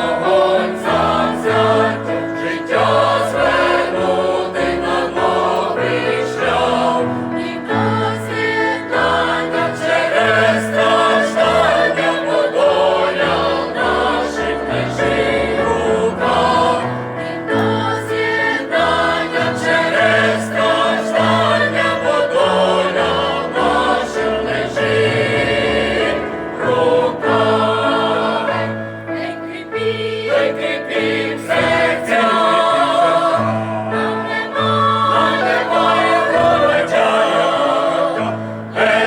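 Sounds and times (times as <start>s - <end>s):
mixed choir singing: 0.0s - 39.0s.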